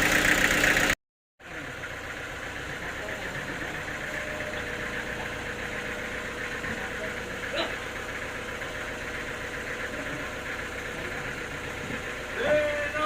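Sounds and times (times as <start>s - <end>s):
engine idling hum: 0.0s - 13.0s.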